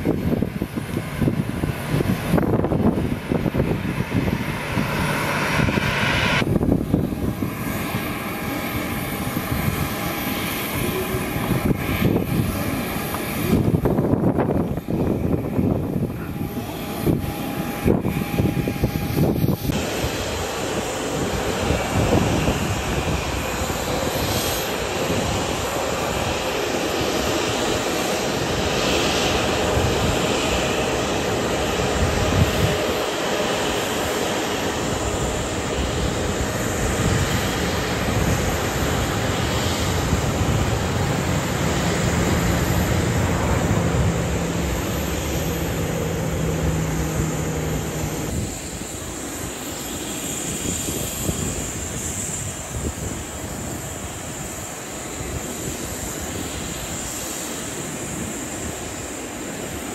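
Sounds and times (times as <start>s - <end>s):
distant jet engines rushing: 0.0s - 59.9s
wind buffeting microphone: 0.0s - 59.9s.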